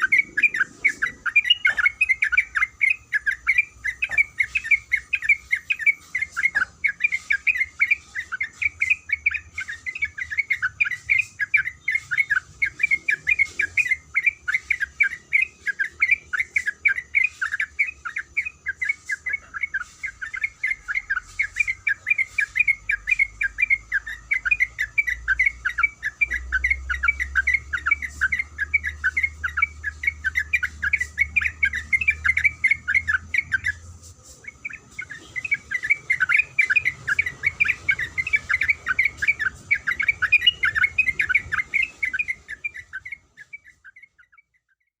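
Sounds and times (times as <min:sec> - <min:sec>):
bird singing chattering notes: 0:00.0 - 0:45.0.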